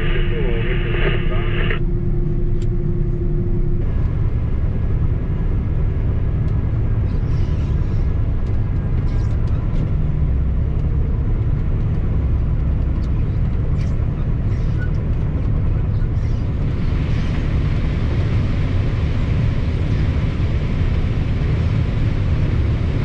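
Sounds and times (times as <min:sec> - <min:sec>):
combine harvester engine rumble: 0:00.0 - 0:23.0.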